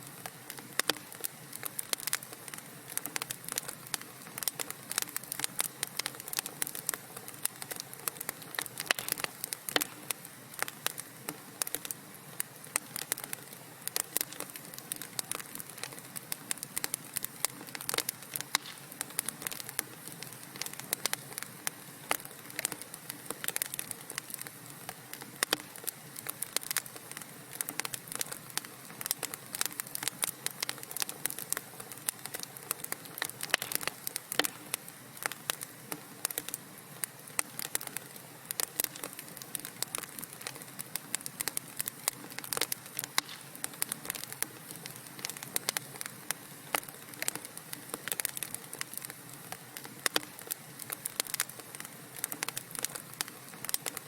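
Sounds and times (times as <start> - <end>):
faint steady hiss: 0.0 - 54.0
fire crackling and popping: 0.0 - 54.0.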